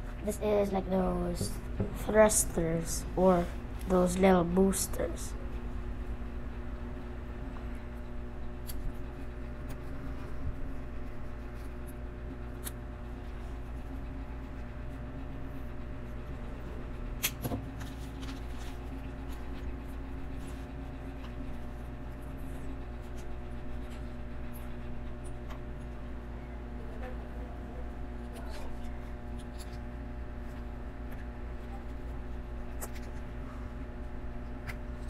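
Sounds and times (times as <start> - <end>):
room hum: 0.0 - 35.0.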